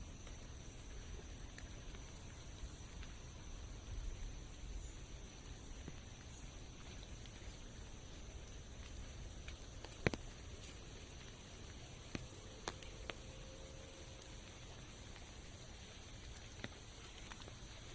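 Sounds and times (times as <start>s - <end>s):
rain pattering in forest: 0.0s - 17.9s.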